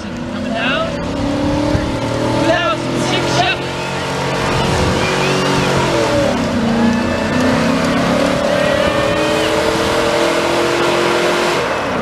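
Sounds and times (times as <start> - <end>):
truck engine running under load: 0.0 - 12.0.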